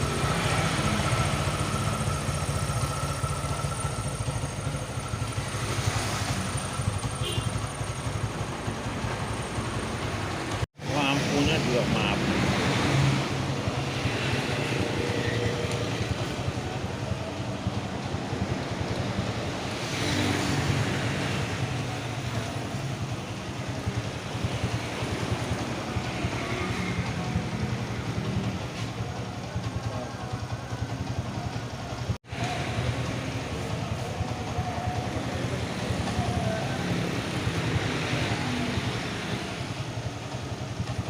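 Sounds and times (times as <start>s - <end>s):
motorcycle engine idling: 0.0s - 19.8s, 20.4s - 41.0s.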